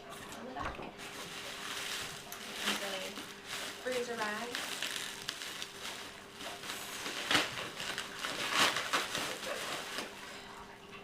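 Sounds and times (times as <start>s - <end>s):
packaging rustling and crinkling: 1.0s - 10.4s.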